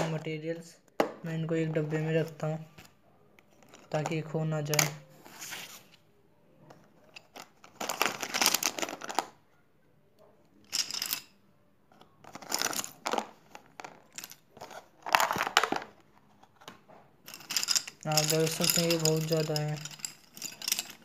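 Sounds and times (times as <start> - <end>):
pencils and pens clattering: 0.0 - 6.0, 6.6 - 9.5, 10.4 - 21.0.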